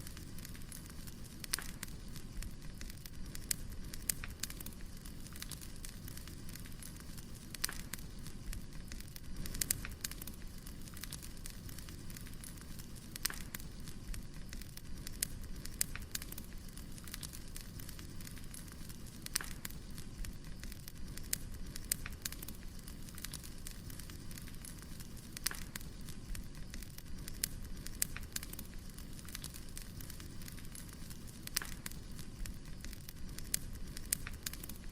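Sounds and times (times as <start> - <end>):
firewood burning: 0.0 - 34.9.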